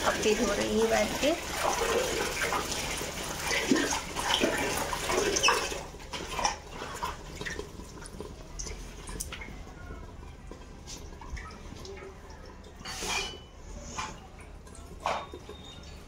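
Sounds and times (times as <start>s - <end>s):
water dripping: 0.0s - 16.0s
water splashing in a bucket: 0.0s - 16.0s.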